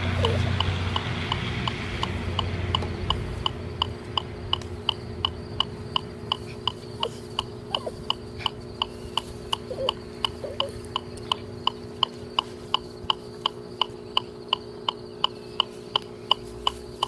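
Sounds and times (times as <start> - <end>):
electronic metronome beeping: 0.0 - 17.0
low hum: 0.0 - 17.0.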